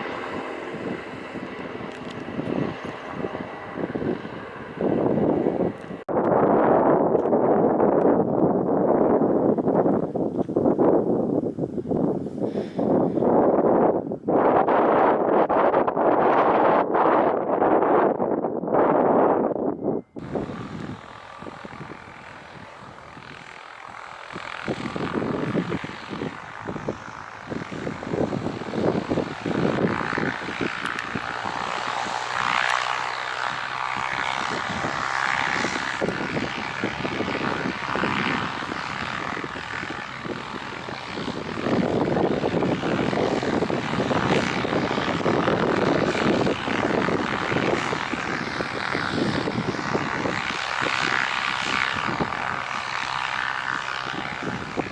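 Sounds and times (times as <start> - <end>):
jet airliner engines: 0.0 - 54.9
wind buffeting microphone: 0.0 - 54.9.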